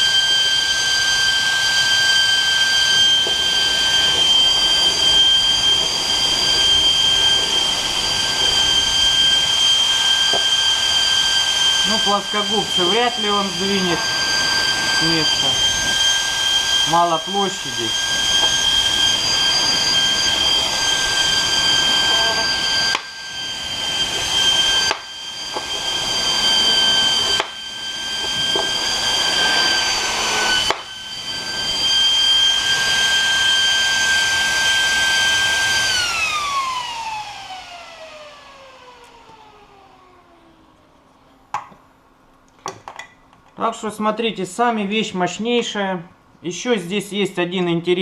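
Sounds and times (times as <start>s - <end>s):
cooling fan whining: 0.0s - 47.2s.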